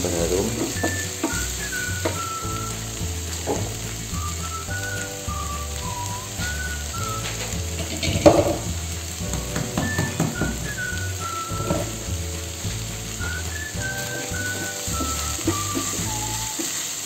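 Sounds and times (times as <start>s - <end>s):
background music with whistling: 0.0s - 17.0s
food sizzling in hot oil: 0.0s - 17.0s.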